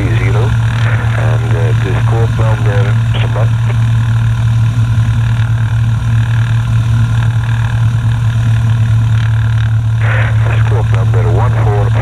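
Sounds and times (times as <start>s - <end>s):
propeller plane engine idling: 0.0s - 12.0s.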